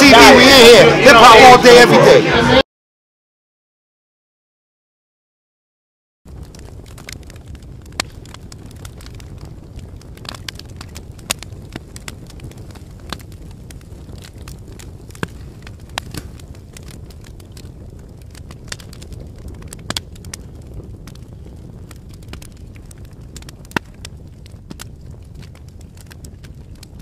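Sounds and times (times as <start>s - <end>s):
fire crackling: 0.0s - 2.6s, 6.3s - 27.0s.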